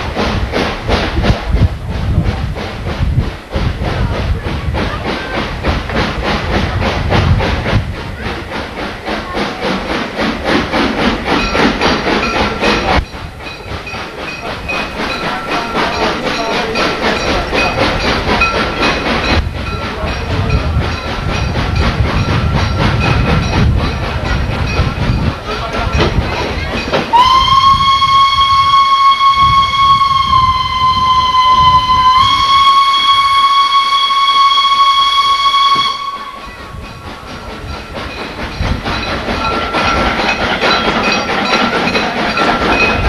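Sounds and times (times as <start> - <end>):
train clattering and rushing: 0.0 - 43.0.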